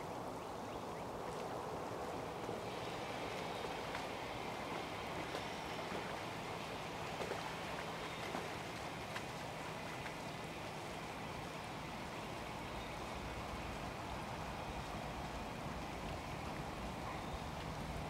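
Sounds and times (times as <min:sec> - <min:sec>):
outdoor ambient hiss: 0:00.0 - 0:18.0.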